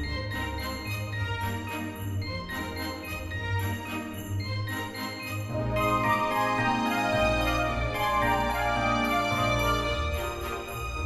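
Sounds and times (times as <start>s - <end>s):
background music with jingling bells: 0.0s - 11.0s.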